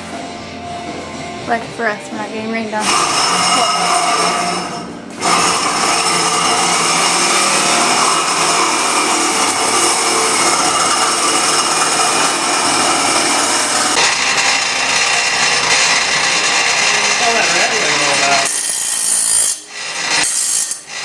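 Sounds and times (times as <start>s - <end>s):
bench grinder grinding metal: 2.8s - 21.0s.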